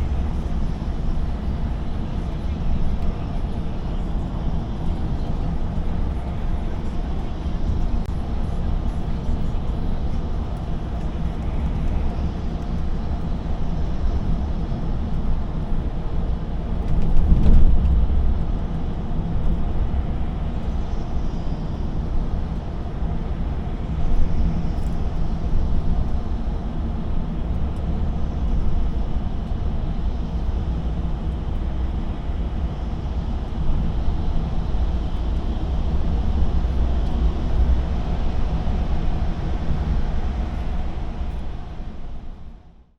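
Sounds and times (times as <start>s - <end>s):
lorry engine rumble: 0.0s - 42.5s.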